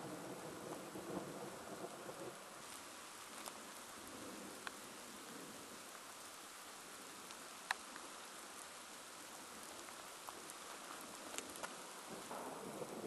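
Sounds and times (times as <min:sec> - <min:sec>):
raindrops ticking: 0:00.0 - 0:05.0, 0:05.8 - 0:13.0
light rain hissing: 0:00.0 - 0:13.0.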